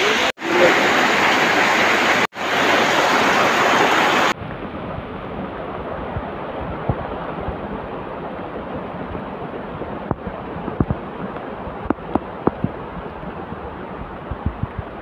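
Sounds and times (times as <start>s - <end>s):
heavy rain: 0.0s - 15.0s
stream rushing over rocks: 0.0s - 15.0s.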